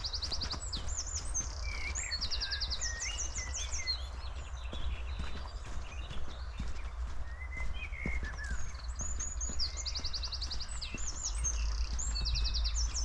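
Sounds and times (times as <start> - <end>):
footsteps crunching on path: 0.0 - 13.0
songbirds chirping and trilling: 0.0 - 13.0.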